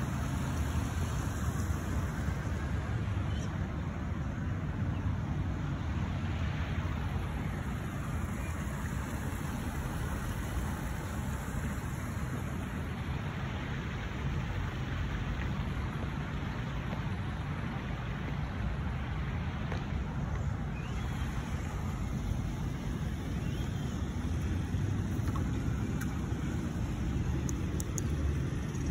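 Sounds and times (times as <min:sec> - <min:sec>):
city traffic rumble: 0:00.0 - 0:28.9.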